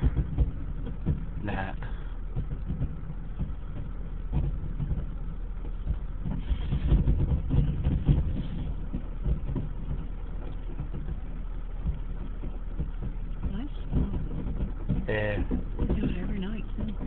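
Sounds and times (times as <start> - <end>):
distant fireworks thumps: 0.0 - 17.0
low rumble: 0.0 - 17.0.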